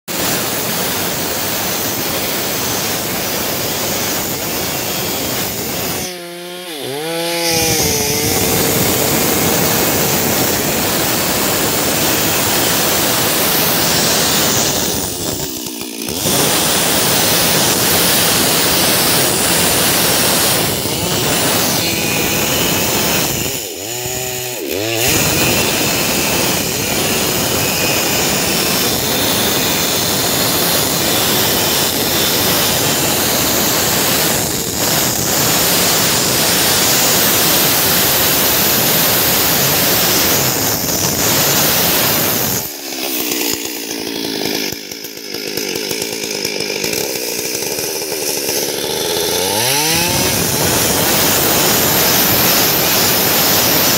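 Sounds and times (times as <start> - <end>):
chainsaw cutting through log: 0.0 - 53.9.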